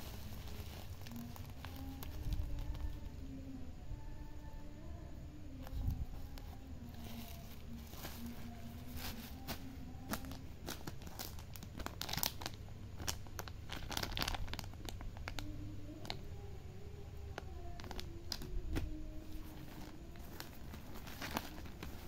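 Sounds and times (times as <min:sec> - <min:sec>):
plastic packaging crinkling: 0:00.0 - 0:03.0, 0:05.6 - 0:16.2, 0:17.7 - 0:22.0.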